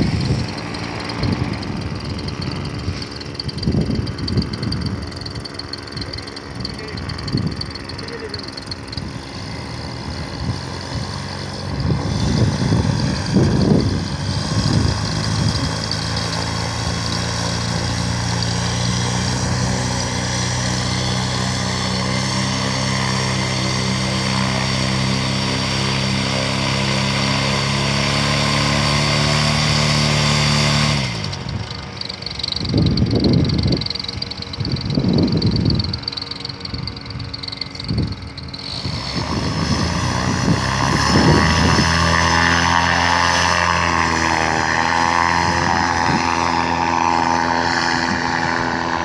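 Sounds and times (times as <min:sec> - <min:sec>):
paramotor engine running: 0:00.0 - 0:49.0.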